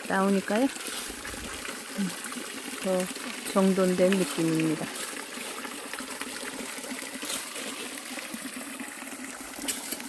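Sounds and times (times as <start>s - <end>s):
water pouring and splashing: 0.0s - 10.0s.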